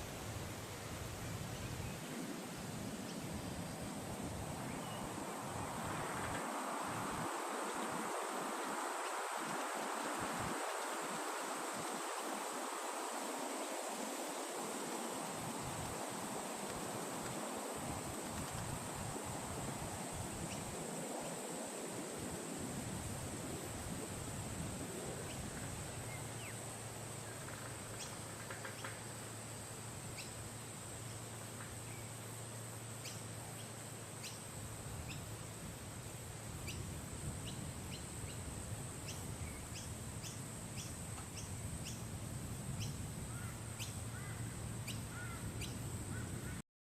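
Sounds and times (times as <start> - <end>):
high-pitched hiss: 0.0 - 46.6.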